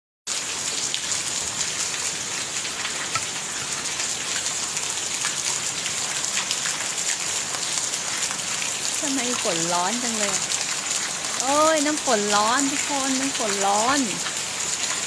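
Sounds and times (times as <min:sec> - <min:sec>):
steady rain falling: 0:00.3 - 0:15.0.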